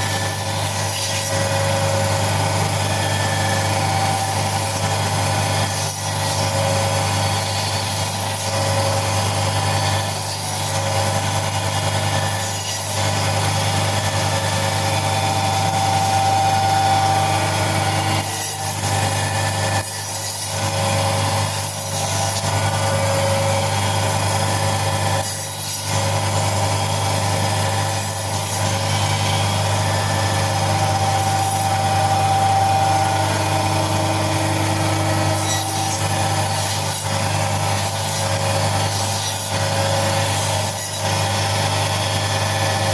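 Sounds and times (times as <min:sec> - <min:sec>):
cutting machine motor hum: 0:00.0 - 0:42.9.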